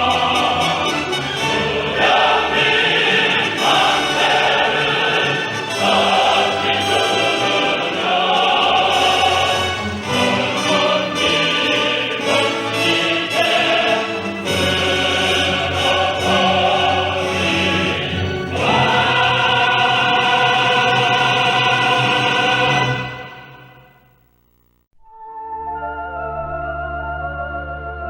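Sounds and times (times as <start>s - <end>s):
choir singing with orchestra: 0.0s - 23.9s.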